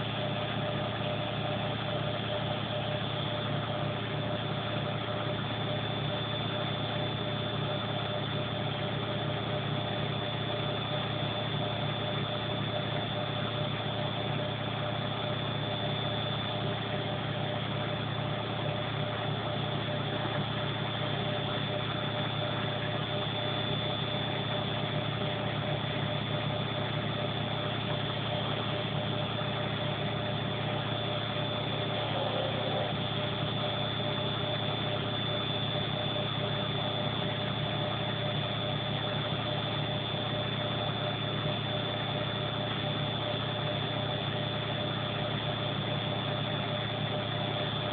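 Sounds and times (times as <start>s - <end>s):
washing machine spinning: 0.0s - 47.9s.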